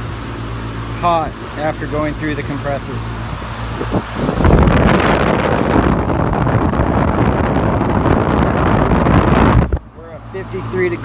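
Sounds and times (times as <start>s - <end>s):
fan air buffeting microphone: 0.0s - 11.0s
heat pump humming: 0.0s - 11.0s.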